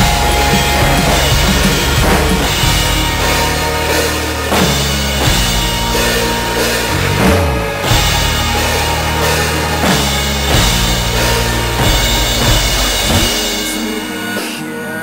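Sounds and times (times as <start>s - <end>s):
cymbal crashes: 0.0s - 14.6s
drum kit played hard: 0.0s - 14.6s
recorded rock song: 0.0s - 15.0s.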